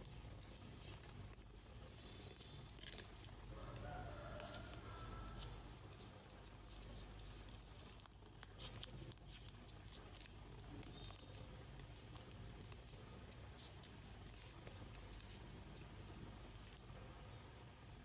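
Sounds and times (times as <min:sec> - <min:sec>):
paper crinkling as folded: 0:00.0 - 0:17.0
steady low hum: 0:00.0 - 0:18.0.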